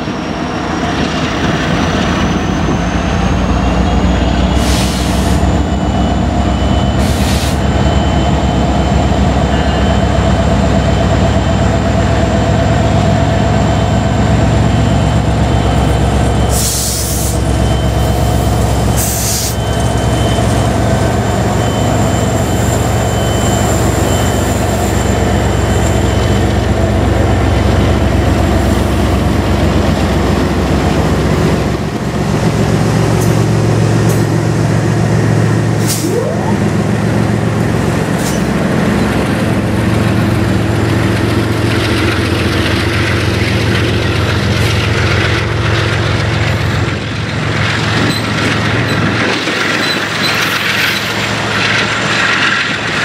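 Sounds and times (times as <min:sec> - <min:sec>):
locomotive engine chugging: 0:00.0 - 0:53.0
rail cars rumbling on rails: 0:00.0 - 0:53.0.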